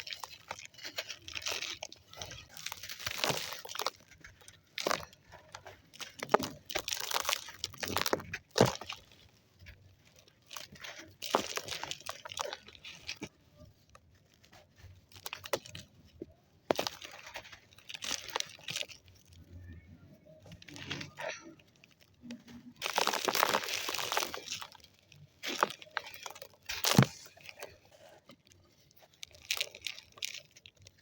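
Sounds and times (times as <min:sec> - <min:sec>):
dry sand crumbling: 0:00.0 - 0:31.0.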